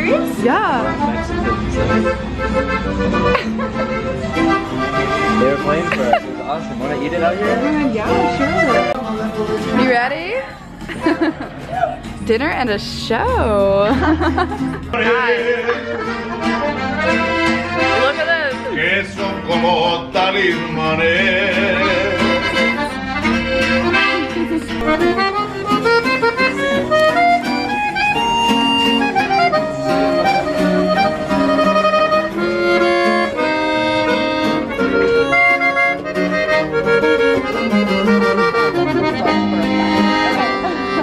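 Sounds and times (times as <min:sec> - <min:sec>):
accordion melody: 0:00.0 - 0:41.0
guitar accompaniment: 0:00.0 - 0:41.0.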